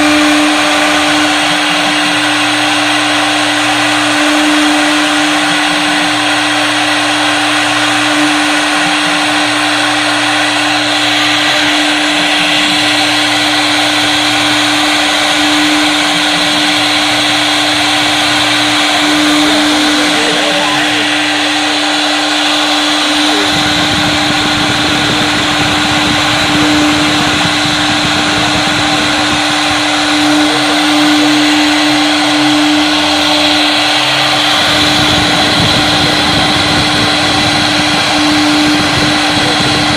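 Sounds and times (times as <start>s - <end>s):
low hum switching on and off: 0.0s - 39.9s
router bit cutting wood: 0.0s - 39.9s
router spindle whine: 0.0s - 39.9s.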